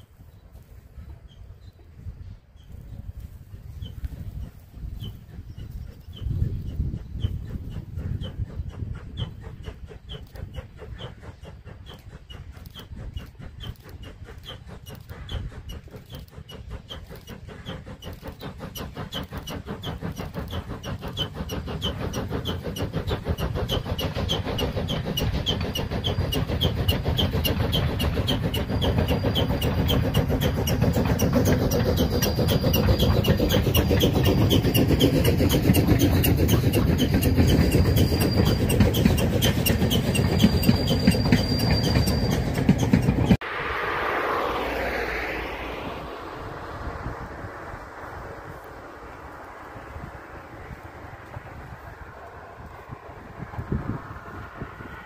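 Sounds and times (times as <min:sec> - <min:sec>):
steam locomotive chuffing: 0:00.0 - 0:55.0.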